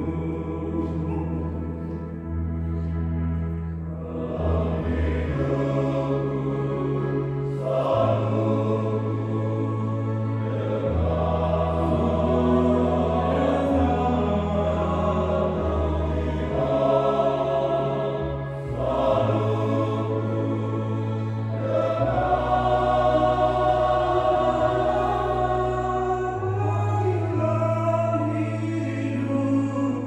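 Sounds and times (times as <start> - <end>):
choir singing a hymn in harmony: 0.0 - 30.0.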